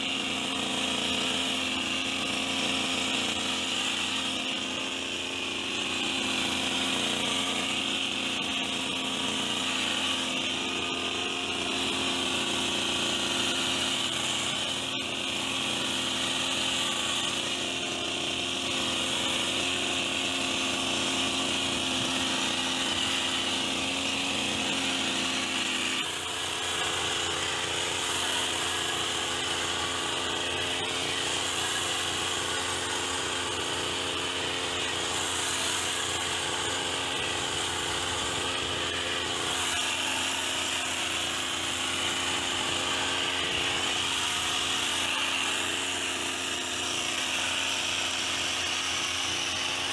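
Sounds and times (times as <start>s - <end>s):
hedge trimmer buzzing: 0.0s - 49.9s.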